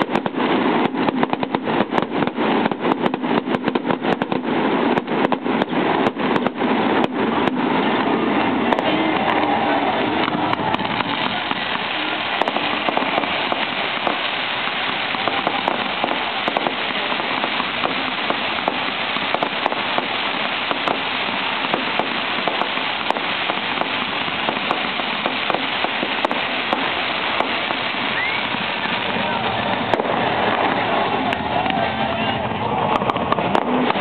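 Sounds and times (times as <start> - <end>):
rapid crackling pops: 0.0 - 31.8, 32.7 - 34.0
firework fountains hissing: 0.0 - 34.0.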